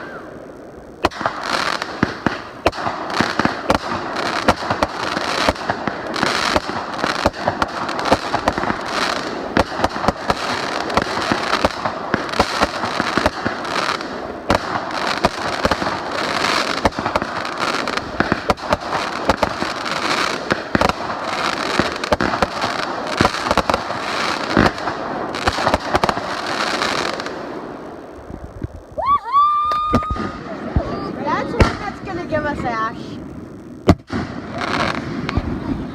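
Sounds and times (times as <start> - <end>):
fireworks crackling and popping: 0.0 - 35.9.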